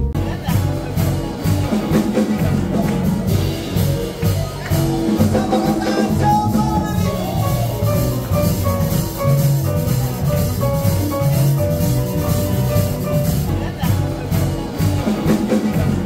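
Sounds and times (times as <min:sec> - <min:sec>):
double bass: 0:00.0 - 0:16.0
drum kit: 0:00.0 - 0:16.0
piano: 0:00.0 - 0:16.0.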